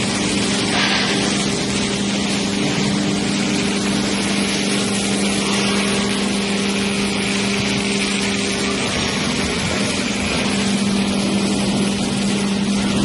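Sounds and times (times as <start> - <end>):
mechanical hiss: 0.0 - 13.0
plate rolling machine hum: 0.0 - 13.0.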